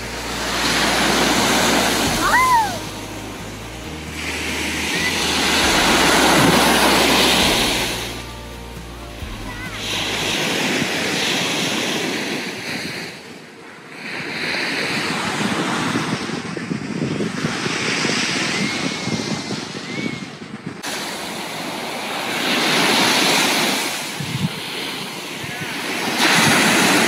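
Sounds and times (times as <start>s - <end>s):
sea waves breaking on beach: 0.0s - 20.2s, 20.8s - 27.0s.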